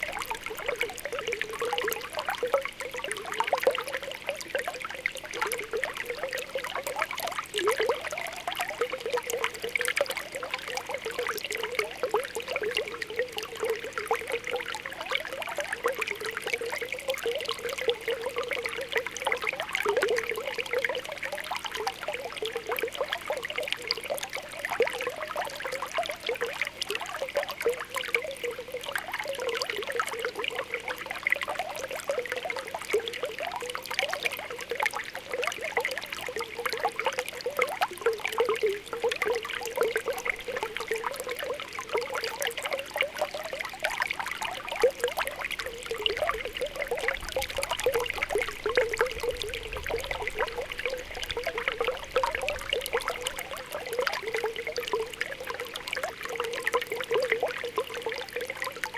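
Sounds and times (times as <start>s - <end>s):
bubbles popping and gurgling: 0.0s - 58.9s
water trickling: 0.0s - 58.9s.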